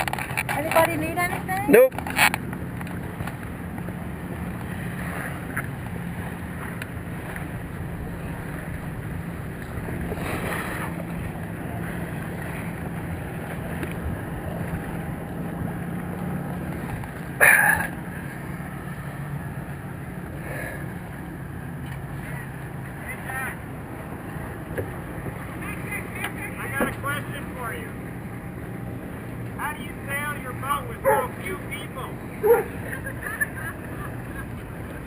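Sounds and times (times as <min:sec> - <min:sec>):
boat engine humming: 0:00.0 - 0:35.0
water noise: 0:00.0 - 0:35.0
wind: 0:00.0 - 0:35.0.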